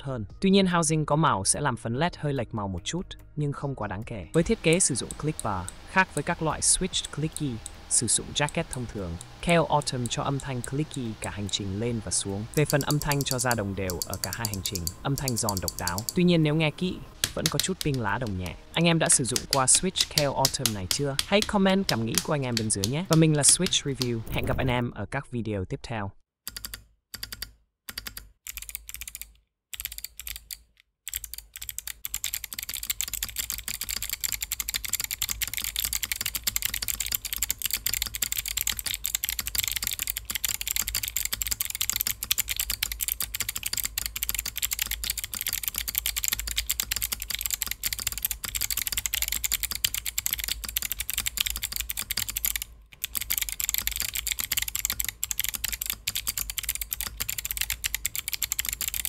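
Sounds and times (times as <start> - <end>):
clicky mechanical keyboard typing: 4.4 - 24.6, 26.5 - 59.0.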